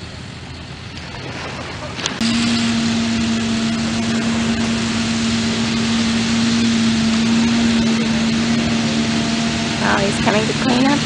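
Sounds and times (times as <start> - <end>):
mechanical noise: 0.0 - 11.0
tractor engine running steadily: 0.0 - 11.0.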